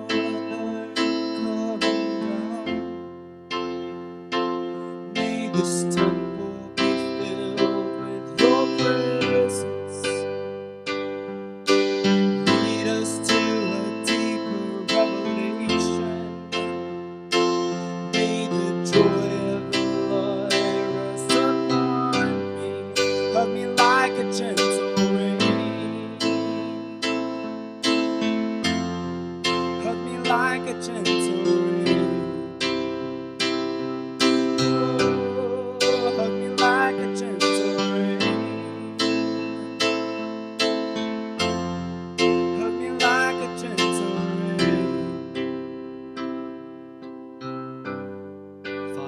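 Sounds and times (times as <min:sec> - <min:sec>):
keyboard playing piano-like chords: 0:00.0 - 0:49.0
slow instrumental worship music: 0:00.0 - 0:49.0.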